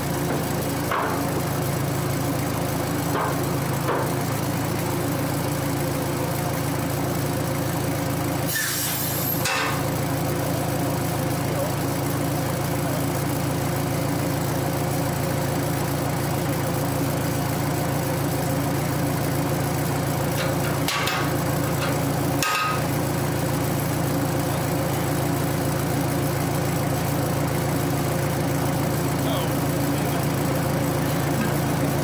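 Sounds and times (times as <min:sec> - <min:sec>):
locomotive engine idling: 0:00.0 - 0:32.0.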